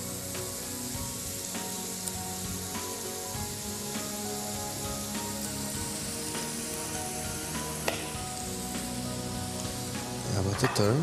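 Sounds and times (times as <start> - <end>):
beetroot sizzling in oil: 0.0 - 11.0.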